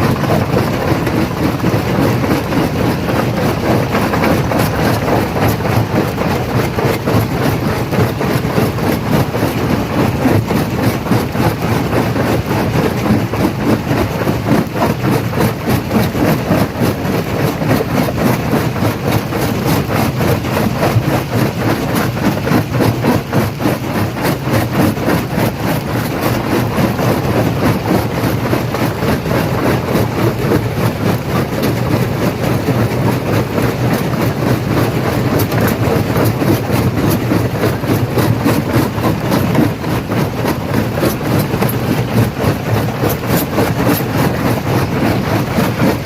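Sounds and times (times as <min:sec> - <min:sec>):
heavy machine running: 0:00.0 - 0:46.0.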